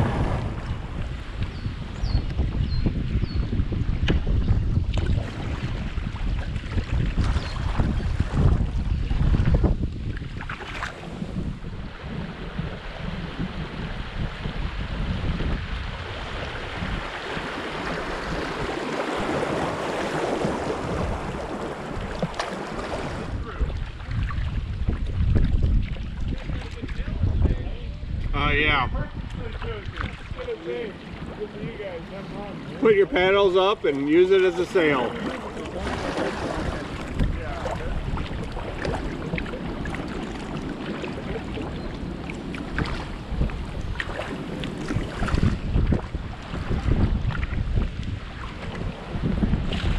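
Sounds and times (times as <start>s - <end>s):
wind buffeting microphone: 0.0s - 49.9s
creek water rushing and splashing: 4.8s - 27.3s, 28.1s - 49.9s.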